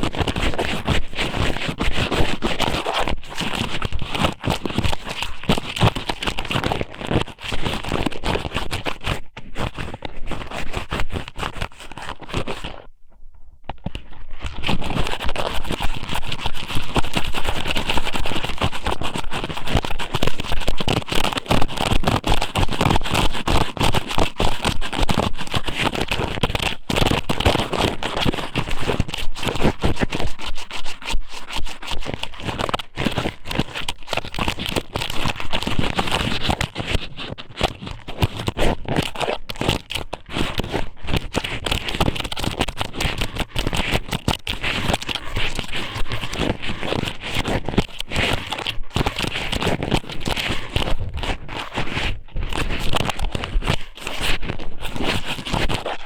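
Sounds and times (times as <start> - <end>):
squid rubbed on microphone: 0.0 - 13.0, 13.8 - 56.0.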